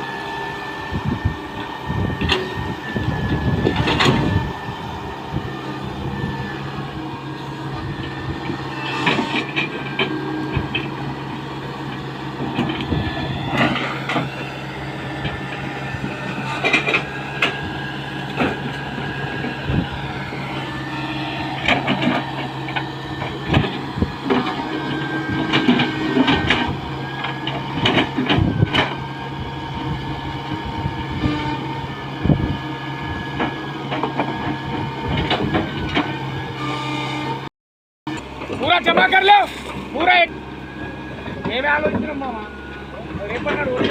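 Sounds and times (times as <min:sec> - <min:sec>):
excavator clanking and knocking: 0:00.0 - 0:37.3, 0:38.1 - 0:43.9
diesel engine under load: 0:00.0 - 0:37.5, 0:38.1 - 0:43.9.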